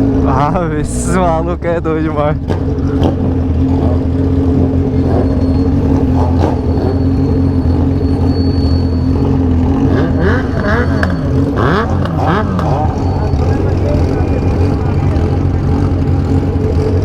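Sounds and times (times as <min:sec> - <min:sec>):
motorcycle engines revving: 0:00.0 - 0:17.0
motorcycle engines running: 0:00.0 - 0:17.0.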